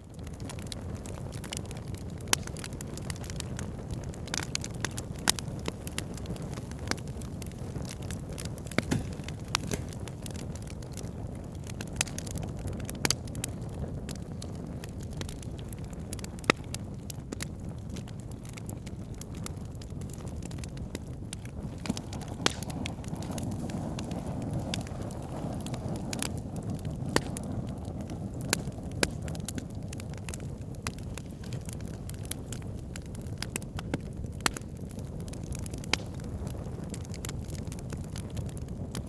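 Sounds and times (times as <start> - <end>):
logs crackling and popping: 0.0 - 39.0
flames rushing: 0.1 - 39.0.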